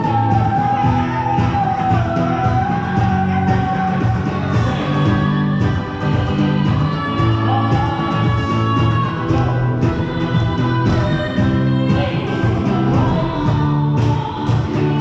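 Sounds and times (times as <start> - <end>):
guitar strumming steady beat: 0.0 - 15.0.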